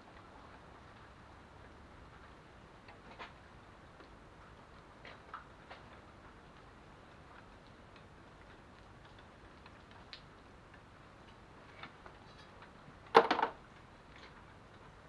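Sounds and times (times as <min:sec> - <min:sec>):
faint light ticks: 0:00.1 - 0:12.8.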